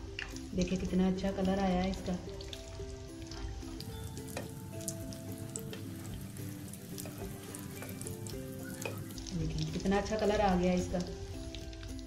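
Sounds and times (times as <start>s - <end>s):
hot oil sizzling and popping: 0.0s - 12.0s
soft background melody: 0.0s - 12.0s.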